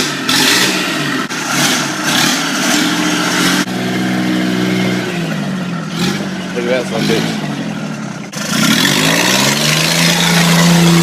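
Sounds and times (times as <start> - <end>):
utility vehicle engine revving: 0.0 - 11.0.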